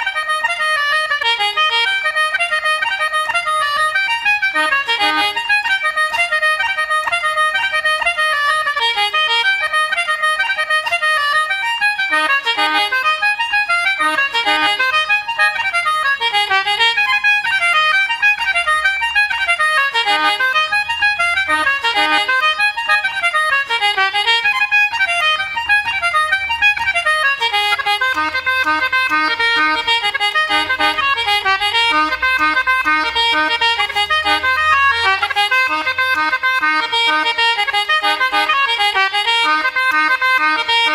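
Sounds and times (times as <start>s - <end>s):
accordion playing lively tune: 0.0s - 40.9s
bass accompaniment: 0.0s - 40.9s.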